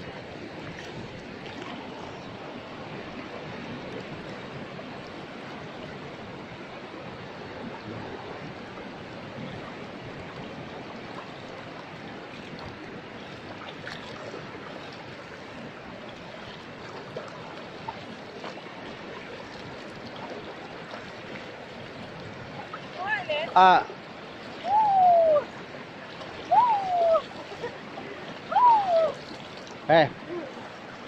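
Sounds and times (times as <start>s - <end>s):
water rushing: 0.0s - 31.0s.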